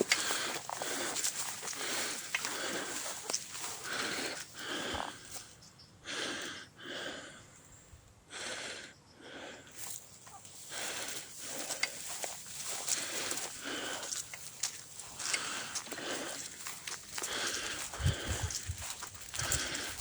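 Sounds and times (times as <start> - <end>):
person breathing heavily: 0.0 - 20.0.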